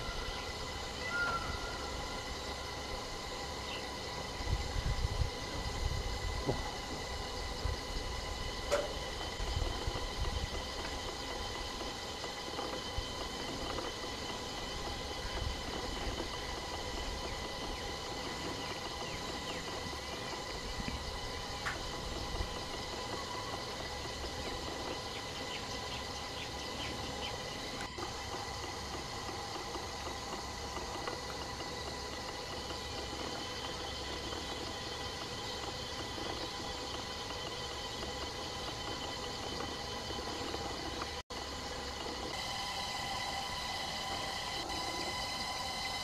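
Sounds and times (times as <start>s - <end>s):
drone of high steady tones: 0.0s - 46.0s.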